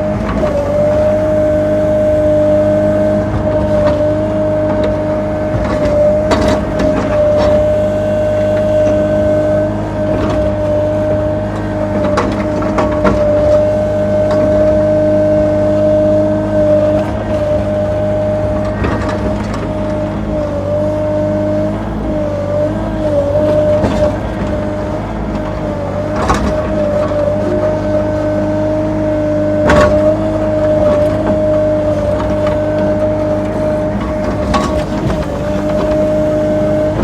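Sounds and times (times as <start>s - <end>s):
excavator diesel engine humming: 0.0s - 37.0s.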